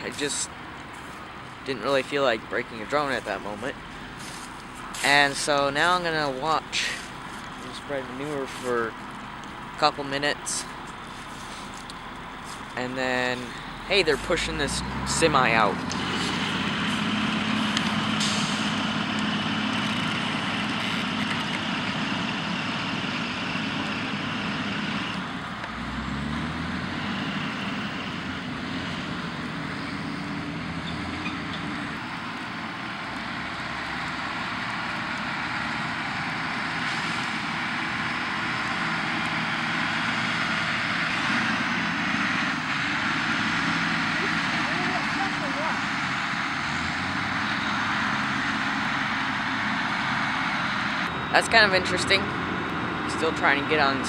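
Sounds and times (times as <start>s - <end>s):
heavy truck engines running hard: 0.0s - 54.0s.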